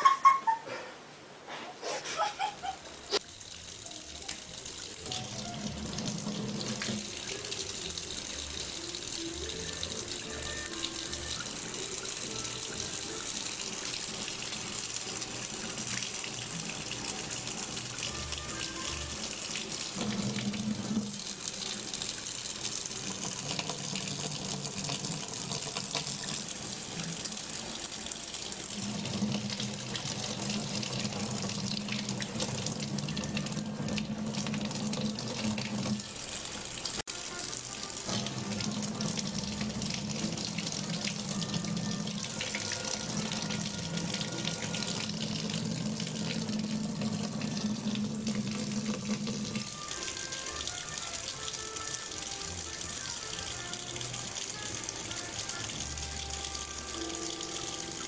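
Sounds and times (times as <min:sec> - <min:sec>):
faucet running and splashing: 0:02.4 - 0:58.0.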